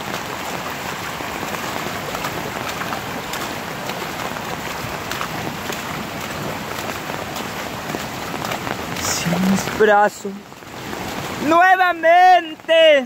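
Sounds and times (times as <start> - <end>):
heavy rain: 0.0 - 13.0
raindrops ticking close by: 0.0 - 13.0.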